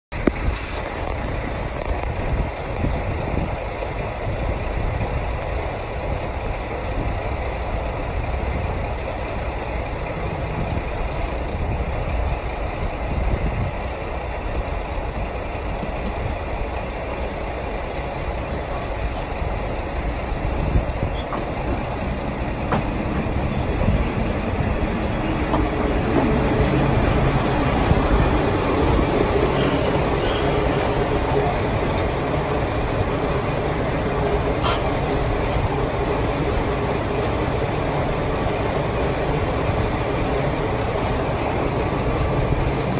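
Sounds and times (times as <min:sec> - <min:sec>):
diesel railcar approaching: 0:00.1 - 0:42.9
steady low rumbling: 0:00.1 - 0:42.9.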